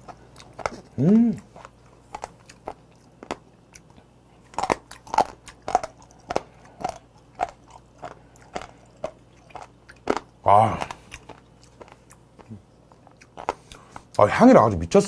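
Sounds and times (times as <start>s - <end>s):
person chewing crunchy food: 0.0s - 14.2s.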